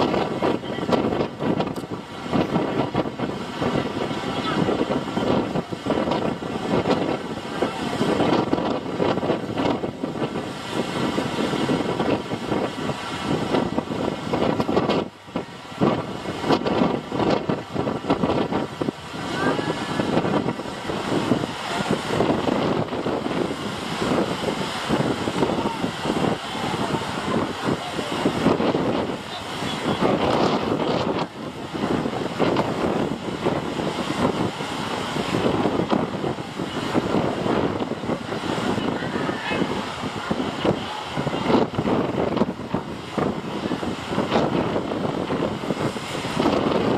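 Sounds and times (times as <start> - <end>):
waves splashing against boat: 0.0 - 46.9
wind buffeting microphone: 0.0 - 46.9.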